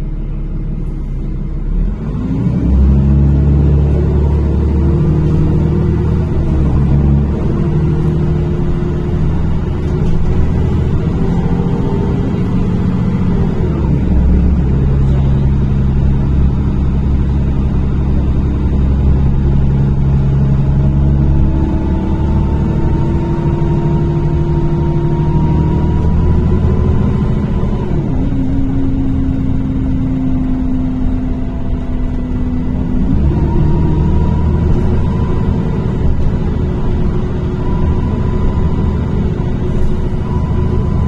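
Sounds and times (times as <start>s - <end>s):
bus engine drone: 0.0s - 41.0s
drivetrain whine rising in pitch: 0.0s - 41.0s.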